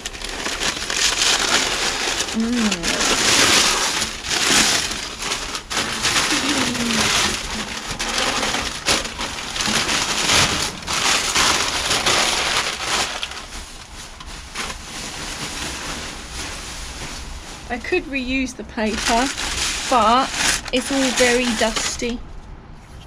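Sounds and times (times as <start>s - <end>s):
paper crinkling and rustling: 0.0s - 22.2s.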